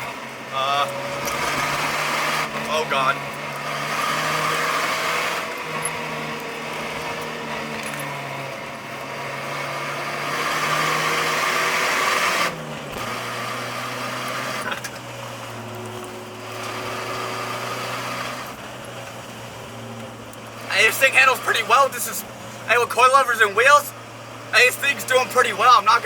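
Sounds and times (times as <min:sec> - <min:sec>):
car engine pulling: 0:00.0 - 0:26.0
road and tyre noise: 0:00.0 - 0:26.0.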